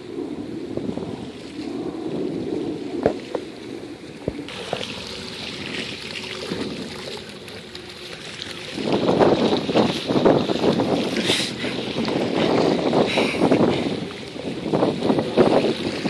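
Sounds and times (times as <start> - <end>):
waves lapping against concrete: 0.0 - 16.0
wind rumbling on microphone: 0.0 - 16.0.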